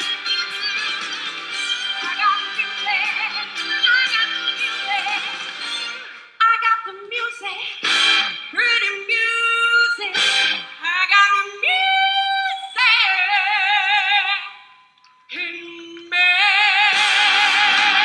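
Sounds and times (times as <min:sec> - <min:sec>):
woman singing with vibrato: 0:01.7 - 0:05.6, 0:06.3 - 0:18.0.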